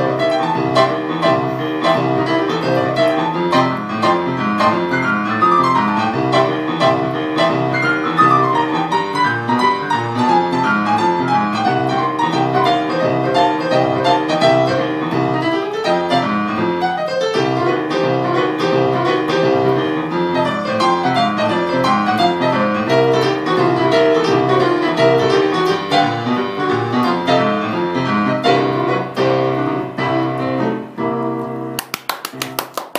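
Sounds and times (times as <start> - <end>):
lively solo piano piece: 0.0 - 32.9.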